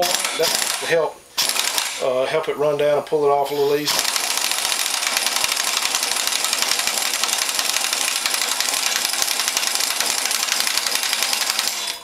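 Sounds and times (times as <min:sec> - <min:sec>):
impact wrench hammering: 0:00.0 - 0:02.0, 0:03.9 - 0:12.0.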